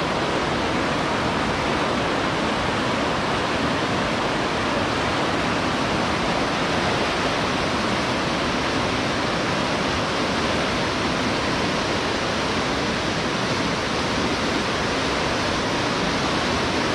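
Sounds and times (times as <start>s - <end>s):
river rapids rushing over rocks: 0.0s - 16.9s.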